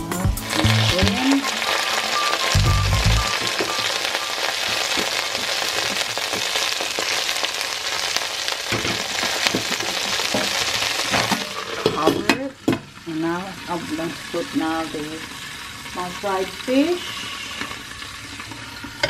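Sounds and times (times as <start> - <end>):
leaves sizzling in hot oil: 0.2 - 19.0.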